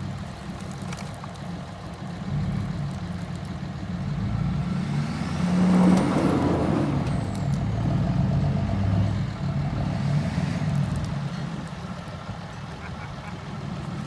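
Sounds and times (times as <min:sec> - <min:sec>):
diesel engine revving under load: 0:02.2 - 0:14.0.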